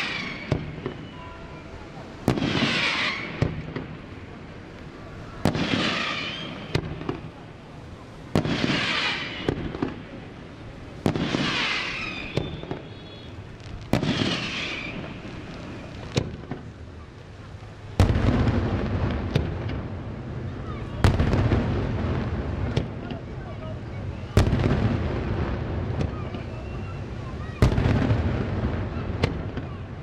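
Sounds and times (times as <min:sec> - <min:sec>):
small firework pops: 0:00.0 - 0:01.1, 0:02.2 - 0:04.0, 0:04.7 - 0:07.4, 0:08.3 - 0:10.2, 0:11.0 - 0:19.9, 0:20.7 - 0:23.6, 0:24.3 - 0:30.0
loud firework bangs: 0:00.0 - 0:04.1, 0:04.8 - 0:07.5, 0:08.2 - 0:17.0, 0:17.8 - 0:30.0
firework crackling: 0:00.0 - 0:30.0.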